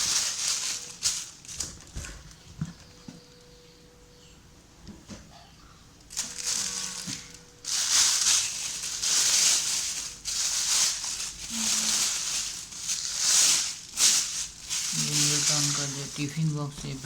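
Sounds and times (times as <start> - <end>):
packaging crinkling and rustling: 0.0 - 2.9, 6.1 - 17.0.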